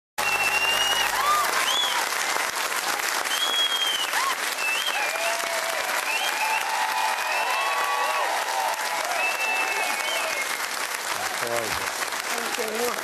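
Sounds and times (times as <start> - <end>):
audience applauding and cheering: 0.2 - 13.0.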